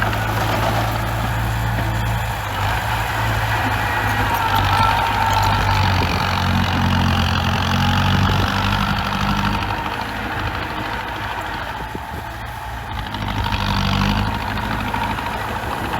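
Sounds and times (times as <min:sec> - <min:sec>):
bulldozer diesel engine running: 0:00.0 - 0:15.9.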